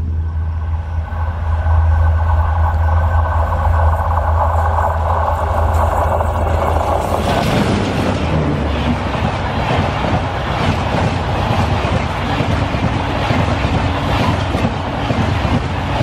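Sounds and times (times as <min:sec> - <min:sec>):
diesel locomotive engine rumbling: 0:00.0 - 0:16.0
train wheels and coaches rushing: 0:00.0 - 0:16.0.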